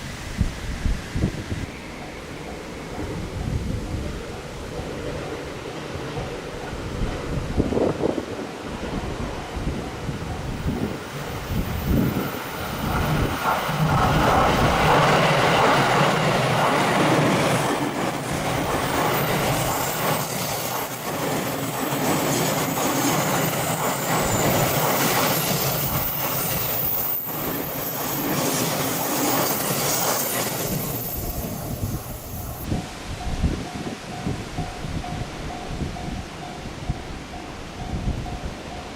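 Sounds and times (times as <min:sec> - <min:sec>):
train wheels clattering on rails: 0:01.6 - 0:38.9.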